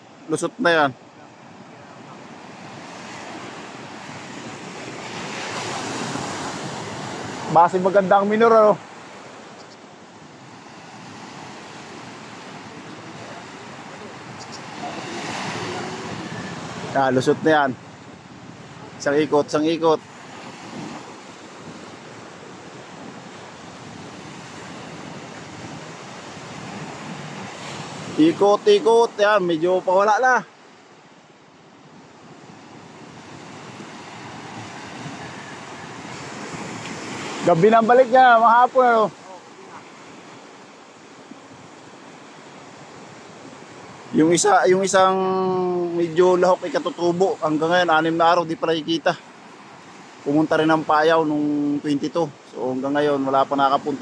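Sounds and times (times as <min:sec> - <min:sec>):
surf breaking on beach: 0:00.0 - 0:09.5, 0:10.2 - 0:30.6, 0:32.0 - 0:52.2.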